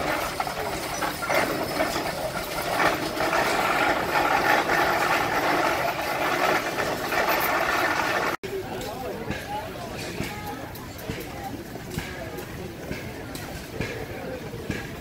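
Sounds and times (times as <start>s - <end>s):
traction engine clattering: 0.0s - 15.0s.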